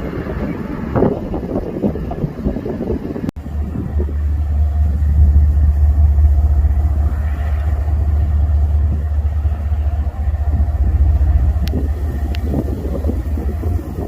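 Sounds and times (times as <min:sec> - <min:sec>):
diesel locomotive rumbling: 0:00.0 - 0:14.0.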